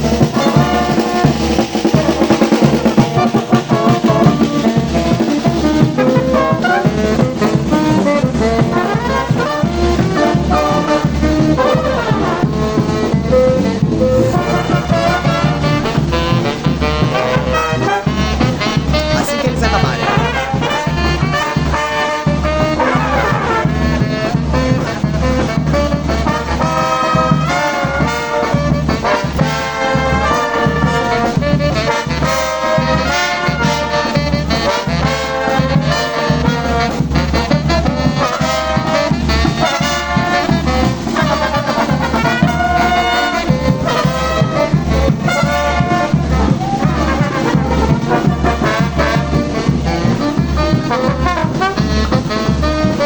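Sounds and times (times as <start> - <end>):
steady drum beat: 0.0 - 53.0
trombones and trumpets: 0.0 - 53.0.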